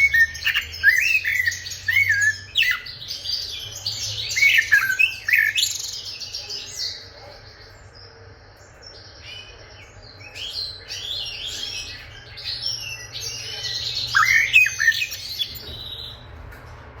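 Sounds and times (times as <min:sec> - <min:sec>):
blackbird singing: 0:00.0 - 0:16.4.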